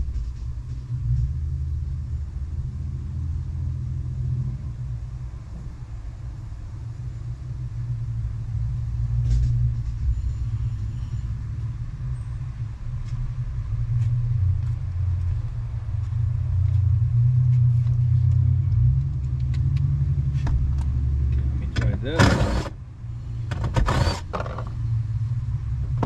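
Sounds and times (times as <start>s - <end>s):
steady low rumble: 0.0s - 23.6s, 24.6s - 26.0s.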